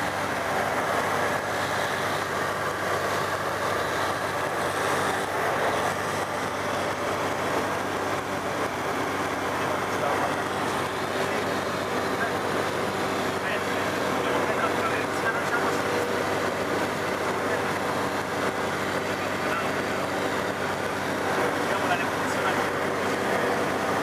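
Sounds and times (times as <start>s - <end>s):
aircraft engine hum: 0.0s - 24.0s
loud airflow noise: 0.0s - 24.0s.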